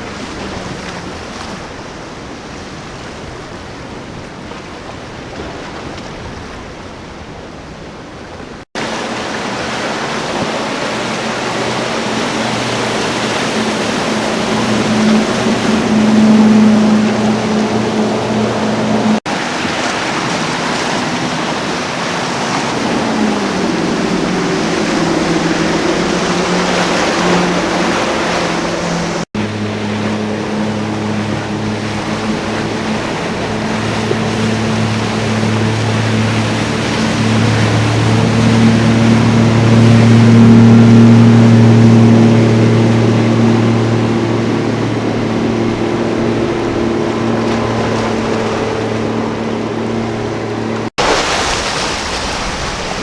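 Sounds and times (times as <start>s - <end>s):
motorboat engines droning: 0.0s - 53.0s
second boat engine: 0.0s - 53.0s
waves splashing: 0.0s - 53.0s.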